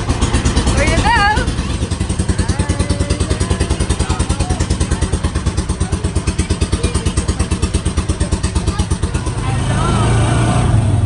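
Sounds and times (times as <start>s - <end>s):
boat engine chugging: 0.0s - 10.7s.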